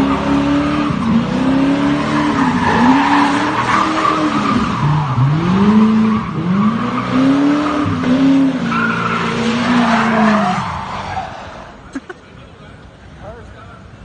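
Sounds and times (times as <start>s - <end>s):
car engine revving: 0.0s - 11.8s
tires squealing on asphalt: 0.0s - 11.9s.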